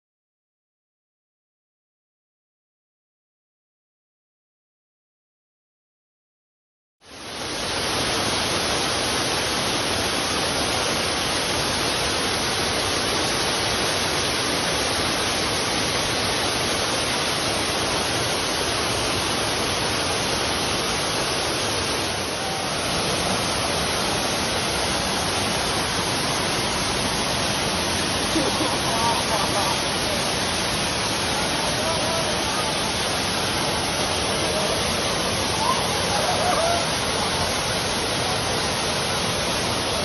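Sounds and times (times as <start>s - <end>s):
waterfall rushing: 7.0s - 40.0s.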